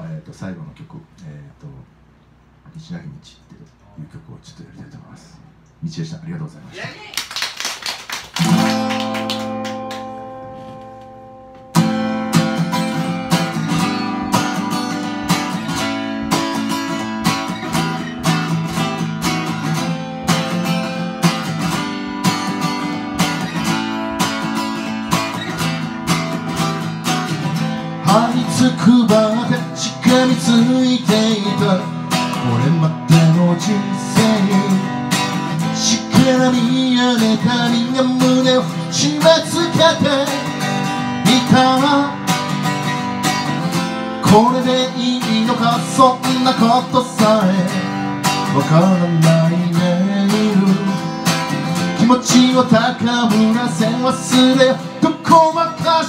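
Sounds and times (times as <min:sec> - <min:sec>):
acoustic guitar strumming: 0:08.4 - 0:56.0.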